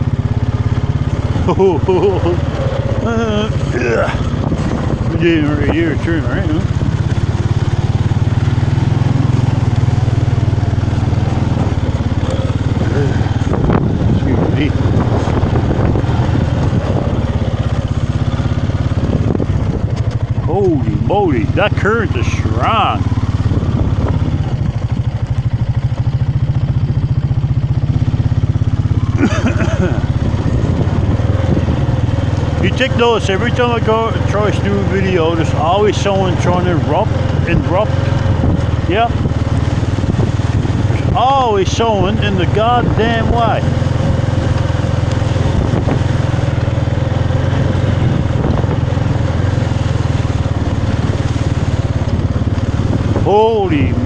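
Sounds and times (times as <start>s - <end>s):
motorcycle engine puttering: 0.0s - 54.0s.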